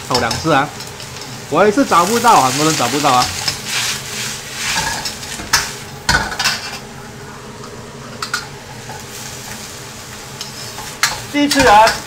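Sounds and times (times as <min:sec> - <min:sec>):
soft sizzle: 0:00.0 - 0:12.0.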